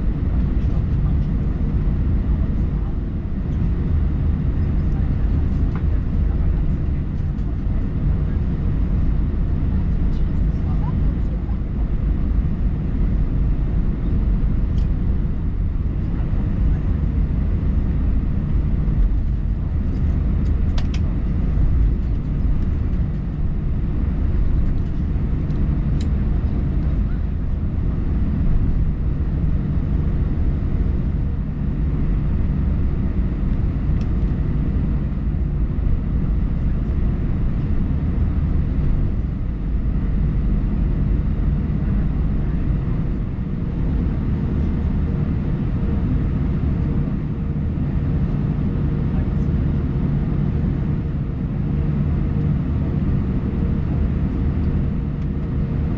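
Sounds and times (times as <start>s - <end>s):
jet engine cabin rumble: 0.0s - 55.9s.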